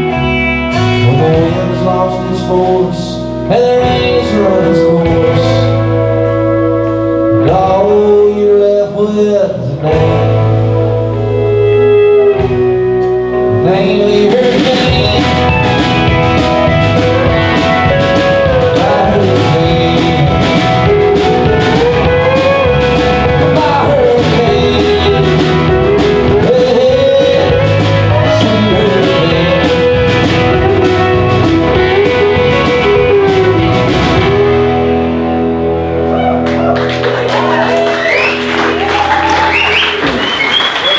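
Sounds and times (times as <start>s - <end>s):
bending lead guitar melody: 0.0s - 40.9s
live rock band playing: 0.0s - 40.9s.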